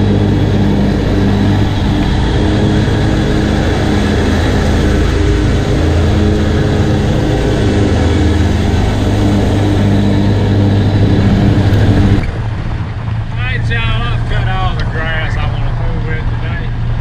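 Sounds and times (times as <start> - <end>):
mower engine running: 0.0 - 17.0.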